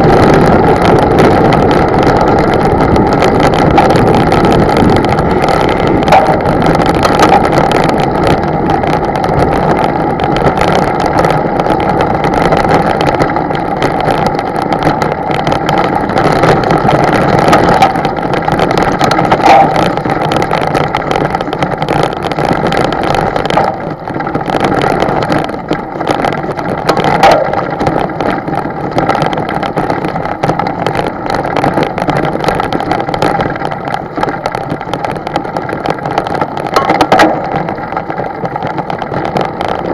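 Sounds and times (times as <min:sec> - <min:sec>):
motorboat engine running: 0:00.0 - 0:39.9
water noise: 0:00.0 - 0:39.9
wind noise: 0:00.0 - 0:39.9.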